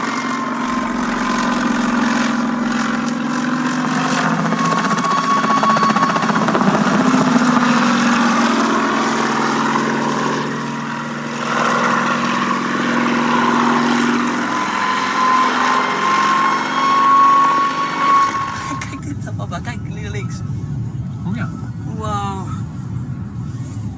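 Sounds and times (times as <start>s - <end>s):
helicopter in flight: 0.0s - 23.9s.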